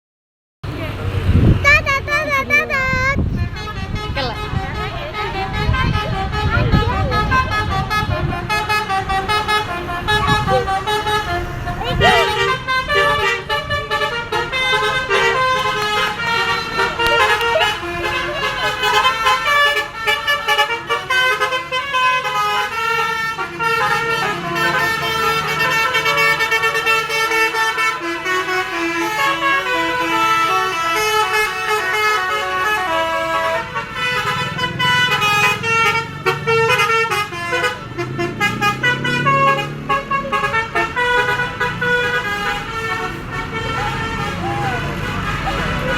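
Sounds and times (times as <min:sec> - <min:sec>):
multi-tone bus air horn tune: 0:01.7 - 0:45.9.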